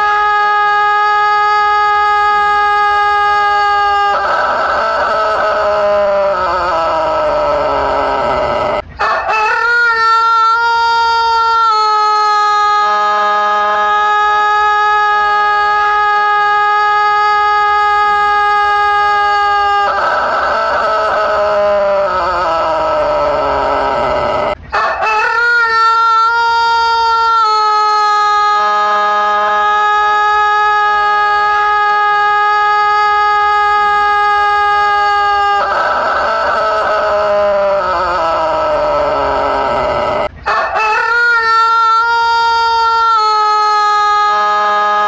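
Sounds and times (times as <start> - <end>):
rooster crowing: 0.0 - 45.0.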